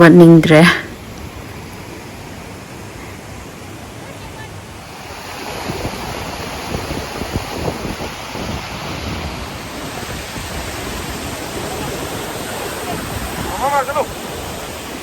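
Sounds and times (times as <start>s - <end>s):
waterfall rushing: 0.4s - 15.0s.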